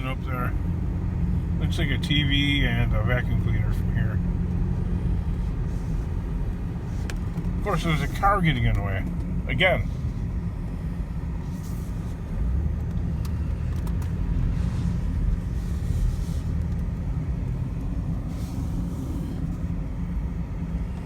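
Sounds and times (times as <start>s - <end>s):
engine and road rumble: 0.0s - 21.0s.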